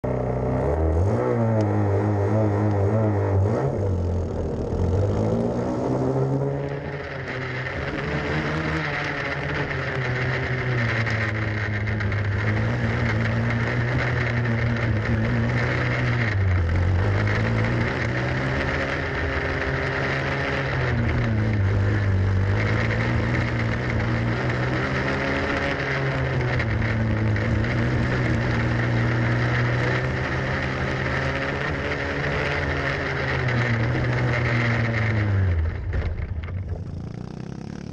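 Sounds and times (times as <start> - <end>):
small kart engine running hard: 0.0 - 37.9.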